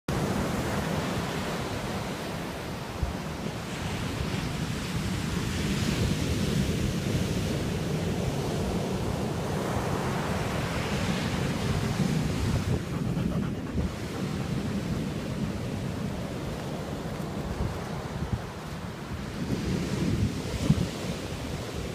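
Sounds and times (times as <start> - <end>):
wind rumble on microphone: 2.7 - 21.9.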